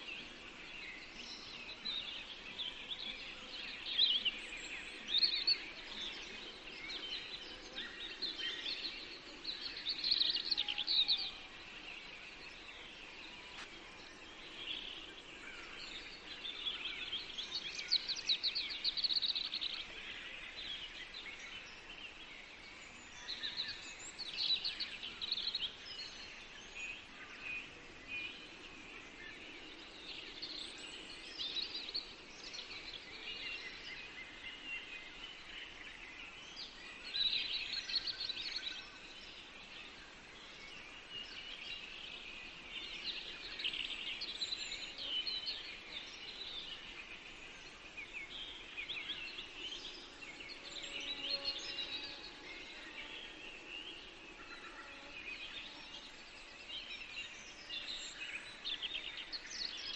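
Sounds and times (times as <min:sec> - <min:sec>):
birds chirping and trilling: 0:00.0 - 0:59.9
faint background hiss: 0:00.0 - 0:59.9.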